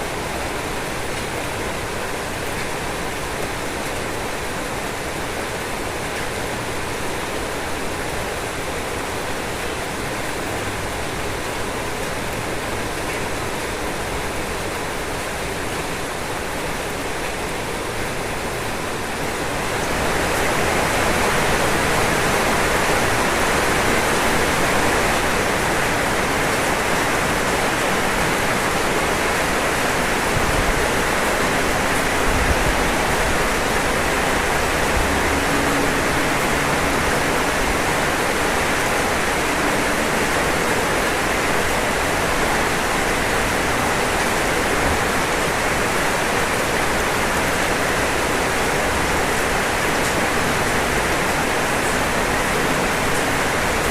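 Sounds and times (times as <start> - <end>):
rain on a roof: 0.0 - 53.9.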